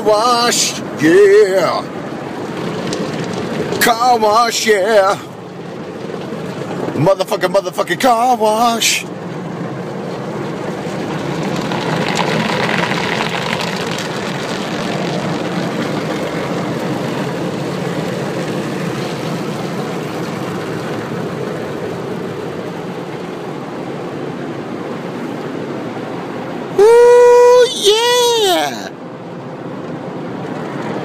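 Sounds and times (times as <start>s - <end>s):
automatic car wash spraying: 0.0s - 26.7s.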